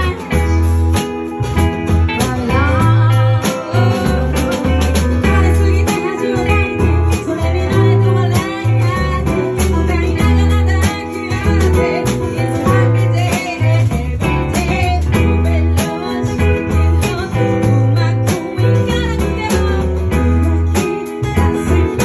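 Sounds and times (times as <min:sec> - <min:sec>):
guitar: 0:00.0 - 0:22.0
heavy bass line: 0:00.0 - 0:22.0.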